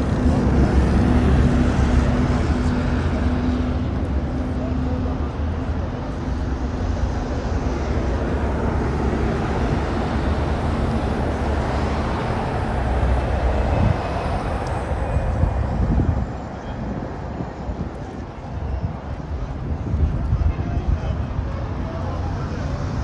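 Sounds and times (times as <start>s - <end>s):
buses driving past: 0.0s - 23.0s
traffic rumble: 0.0s - 23.0s.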